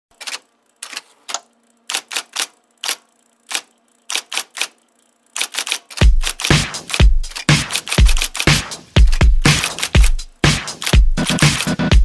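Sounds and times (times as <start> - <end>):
typewriter keystrokes: 0.1 - 4.8, 5.4 - 11.9.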